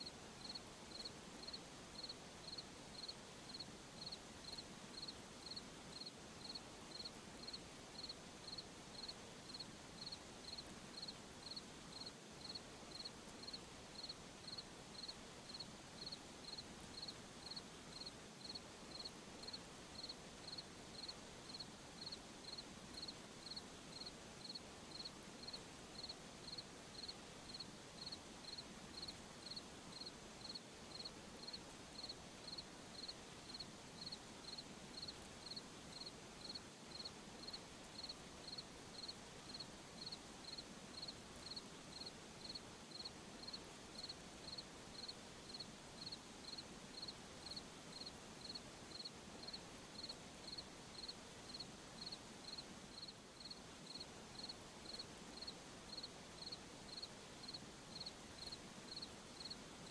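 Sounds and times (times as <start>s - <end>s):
faint night ambience hiss: 0.0s - 59.9s
cricket chirping: 0.4s - 59.6s.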